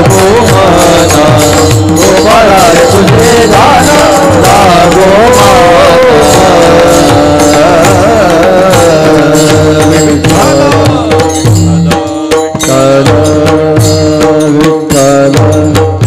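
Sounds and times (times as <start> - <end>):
steady held drone: 0.0 - 14.0
wavering melody: 0.0 - 15.1
hand drum strokes: 0.0 - 15.9
small cymbals: 0.0 - 16.0.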